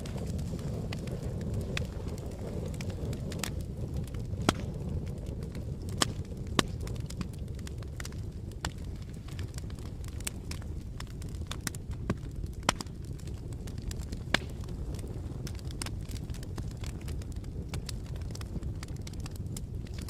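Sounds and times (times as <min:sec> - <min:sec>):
campfire snaps and pops: 0:00.0 - 0:20.0
low rush of burning wood: 0:00.0 - 0:20.0.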